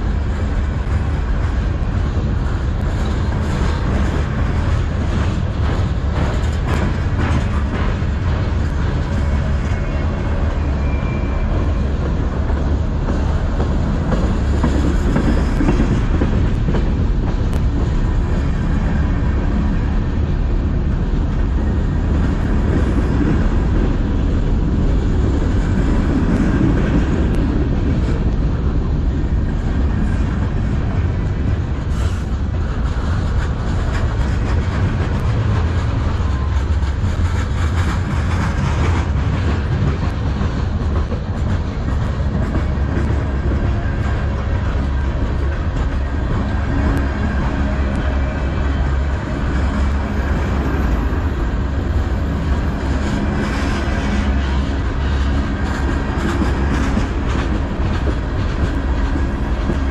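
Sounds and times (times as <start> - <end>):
freight train rolling past: 0.0 - 59.9
wheels clickety-clack: 0.0 - 59.9.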